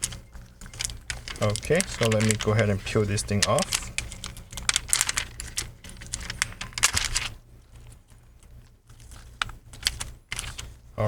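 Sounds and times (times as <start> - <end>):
handling clicks: 0.0 - 11.0
plastic film peeling: 0.0 - 11.0.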